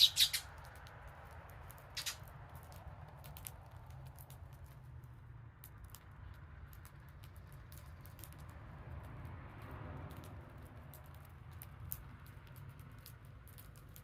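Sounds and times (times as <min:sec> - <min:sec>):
birds pecking and hopping: 0:00.0 - 0:14.0.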